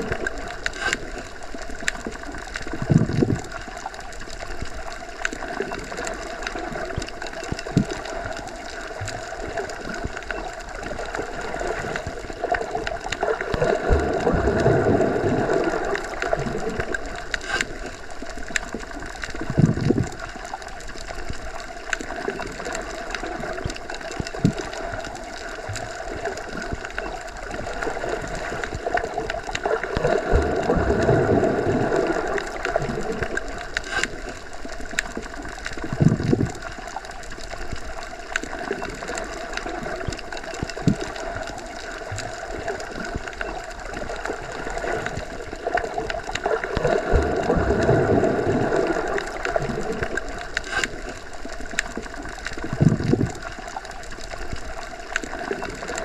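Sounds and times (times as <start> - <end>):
underwater rushing and gurgling: 0.0 - 56.0.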